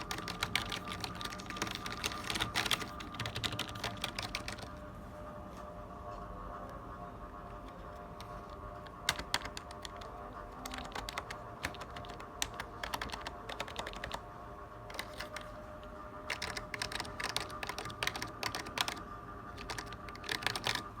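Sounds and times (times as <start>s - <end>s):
typing on computer keyboard: 0.0s - 4.7s, 7.6s - 15.6s, 16.2s - 21.0s
faint steady hum: 0.0s - 21.0s.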